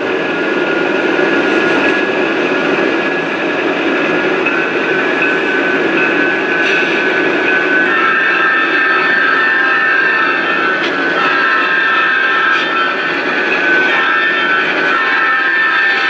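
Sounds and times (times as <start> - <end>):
high held tones: 0.0 - 16.0
model trains rolling: 0.0 - 16.0.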